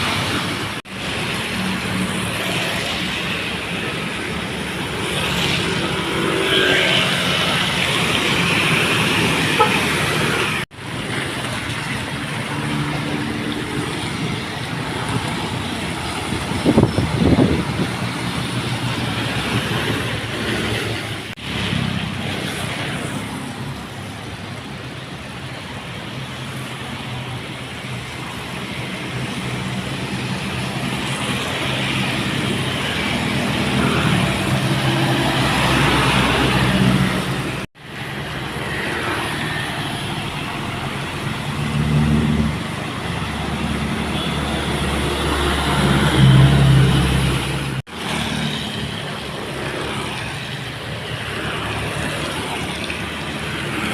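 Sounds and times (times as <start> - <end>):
dump truck diesel engines labouring: 0.0 - 53.9.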